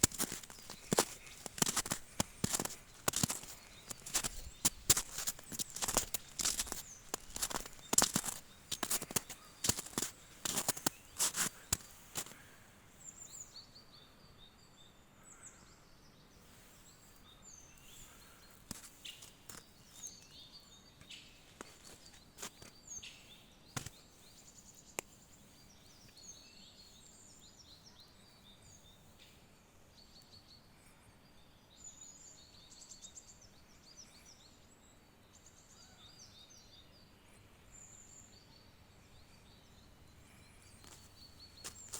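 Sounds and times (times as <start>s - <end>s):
small birds chirping: 0.0s - 13.9s, 16.2s - 41.9s.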